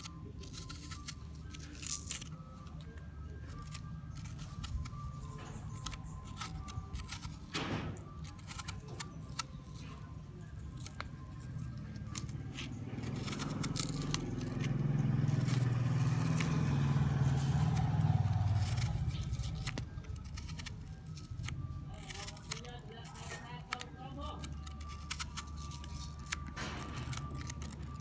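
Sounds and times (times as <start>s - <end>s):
fingernails tapping on apple skin: 0.0s - 28.0s.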